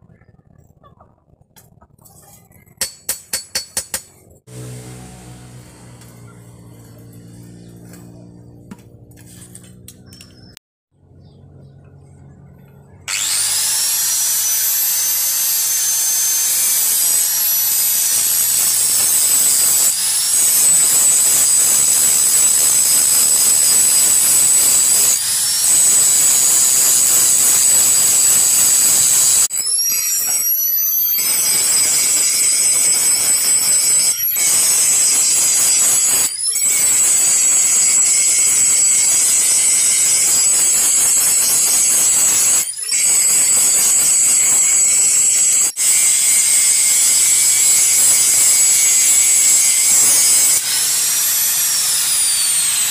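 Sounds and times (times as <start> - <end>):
angle grinder grinding steel: 1.6 - 10.6, 12.9 - 52.9.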